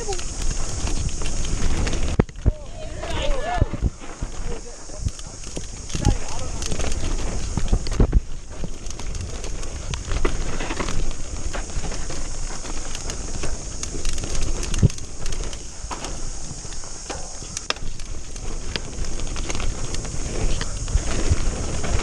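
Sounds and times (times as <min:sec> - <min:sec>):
bike rattling: 0:00.0 - 0:22.0
bike tyres crunching over dirt: 0:00.0 - 0:22.0
steady hiss: 0:00.0 - 0:22.0.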